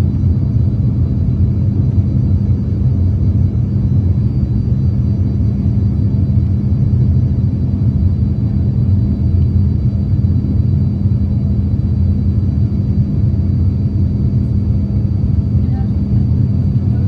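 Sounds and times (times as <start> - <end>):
even hum: 0.0 - 17.0
jet cabin rumble: 0.0 - 17.0.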